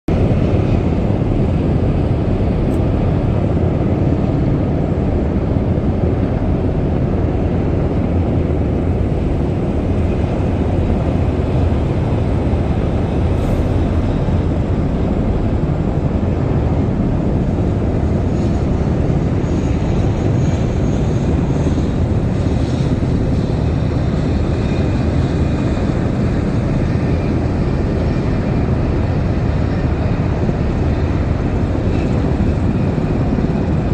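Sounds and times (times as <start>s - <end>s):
aircraft engines rumbling: 0.1s - 33.9s.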